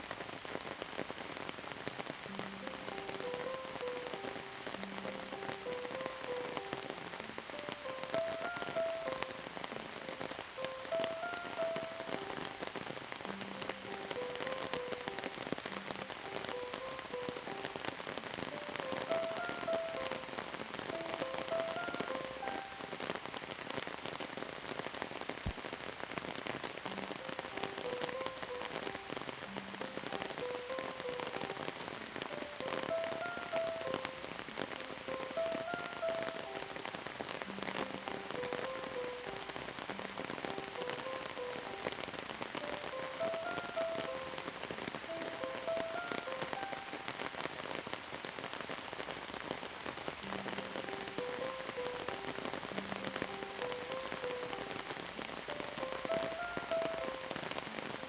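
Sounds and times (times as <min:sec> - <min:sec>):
rain pattering: 0:00.0 - 0:58.0
soft melody of pitched notes: 0:02.3 - 0:23.0, 0:27.0 - 0:42.0, 0:42.6 - 0:47.1, 0:50.3 - 0:58.0.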